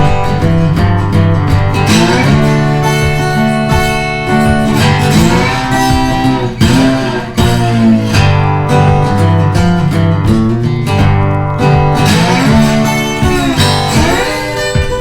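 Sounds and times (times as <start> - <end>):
acoustic guitar strumming: 0.0 - 15.0
steady bass line: 0.0 - 15.0.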